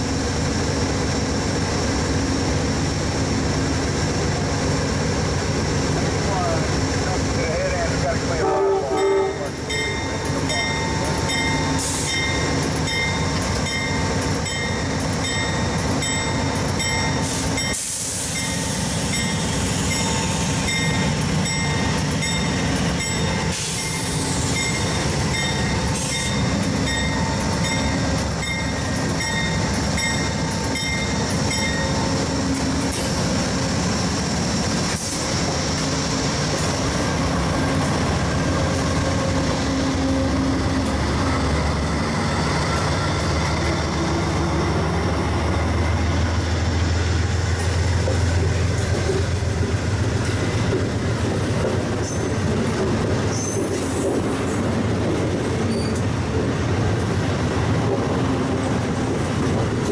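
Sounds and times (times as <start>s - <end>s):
diesel locomotive rumbling: 0.0s - 59.9s.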